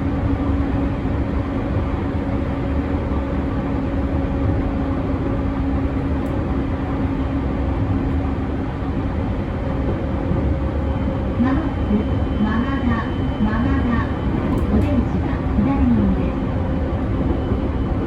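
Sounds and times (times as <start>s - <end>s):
rail and wheel rumble: 0.0s - 18.0s.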